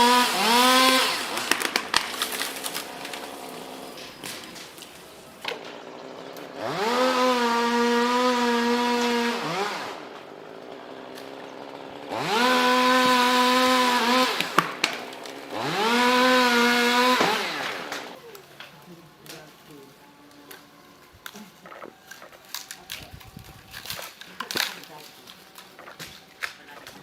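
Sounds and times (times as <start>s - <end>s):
chainsaw engine revving and idling: 0.0s - 27.0s.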